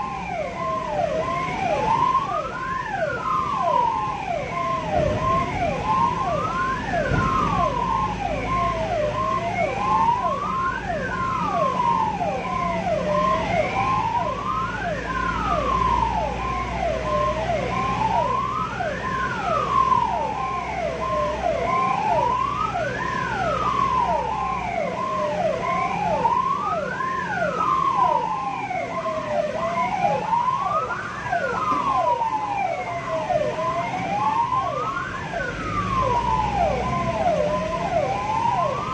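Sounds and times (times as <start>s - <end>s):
ambulance siren wailing: 0.0s - 38.9s
vehicle road rumble: 0.0s - 38.9s.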